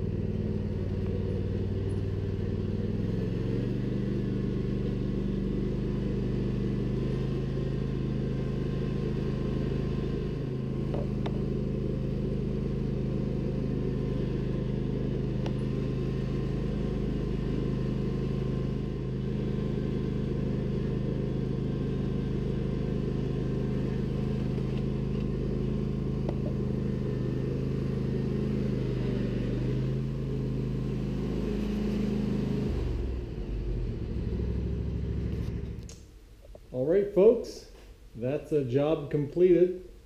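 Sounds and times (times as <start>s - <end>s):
riding mower engine running: 0.0s - 36.1s.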